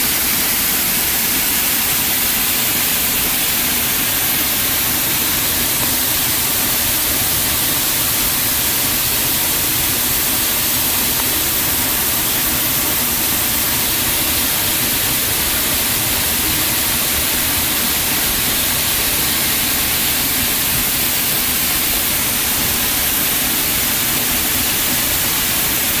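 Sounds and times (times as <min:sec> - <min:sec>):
waterfall hissing onto rock: 0:00.0 - 0:26.0.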